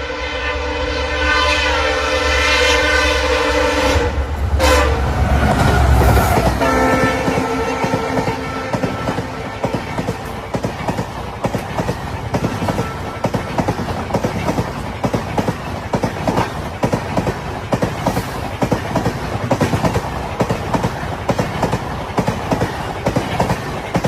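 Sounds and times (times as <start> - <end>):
train wheels clattering: 4.6 - 24.0.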